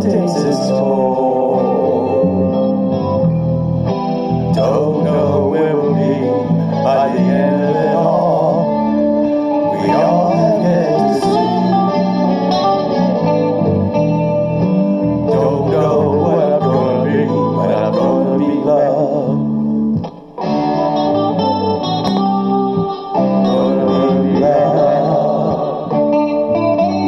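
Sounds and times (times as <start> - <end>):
guitar instrumental over speaker: 0.0 - 27.0.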